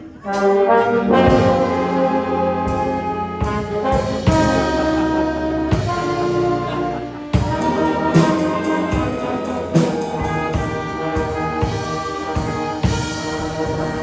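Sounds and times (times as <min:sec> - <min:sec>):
brass holding chords: 0:00.0 - 0:14.0.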